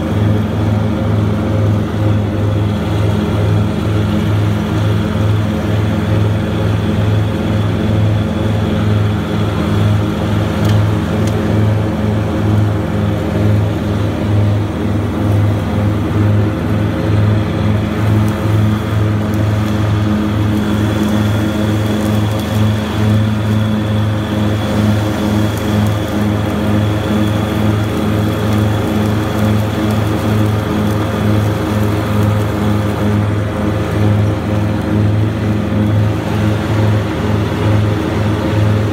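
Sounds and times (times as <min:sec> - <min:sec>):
mower diesel engine running: 0:00.0 - 0:38.9.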